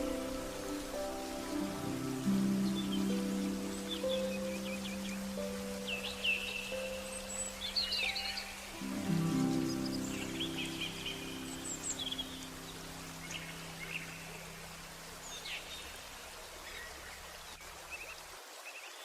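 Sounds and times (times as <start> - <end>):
held low music chord: 0.0 - 15.4
flowing water: 0.0 - 19.0
small birds chirping: 0.0 - 19.0.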